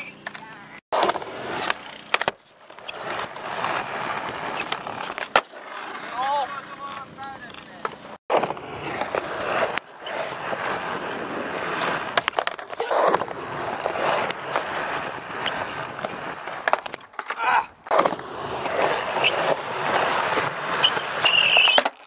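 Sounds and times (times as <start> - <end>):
skateboard clacks: 0.0 - 22.0
skateboard wheels rolling: 0.0 - 22.0.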